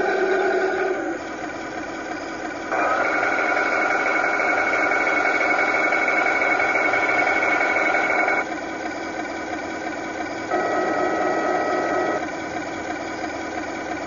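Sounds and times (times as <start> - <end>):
high-pitched turret motor whine: 0.0 - 14.0
simulated engine idle drone: 0.0 - 14.0.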